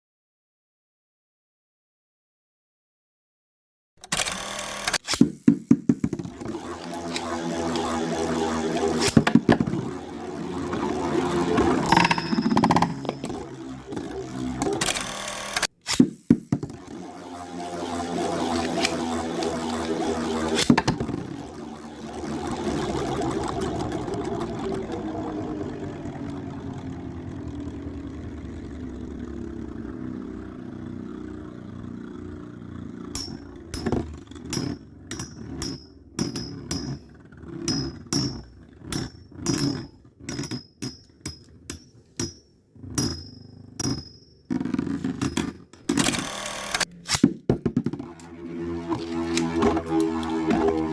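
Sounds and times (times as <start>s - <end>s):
tops clicking and knocking: 4.0s - 28.4s, 33.1s - 50.9s
spinning tops whirring: 4.0s - 42.4s, 43.0s - 50.9s.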